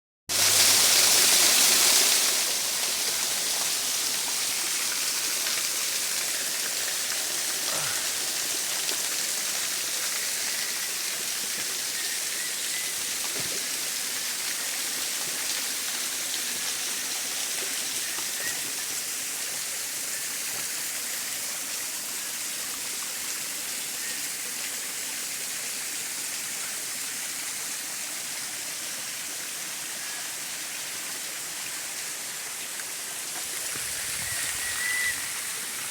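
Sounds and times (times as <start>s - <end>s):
running water rushing: 0.3s - 35.9s.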